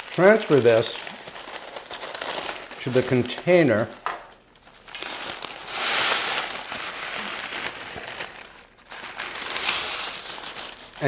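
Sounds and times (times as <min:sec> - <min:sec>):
parchment paper crinkling: 0:00.0 - 0:11.0.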